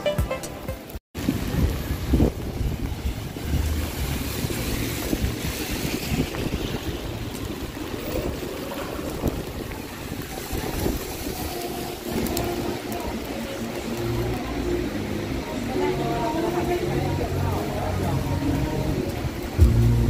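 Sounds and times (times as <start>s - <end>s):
wet street traffic noise: 0.0s - 20.0s
wind rumbling on microphone: 1.2s - 20.0s.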